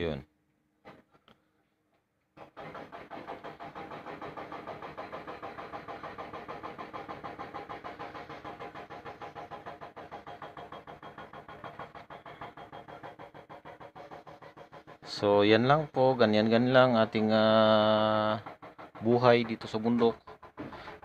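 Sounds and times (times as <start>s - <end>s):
small engine running: 2.4s - 21.0s.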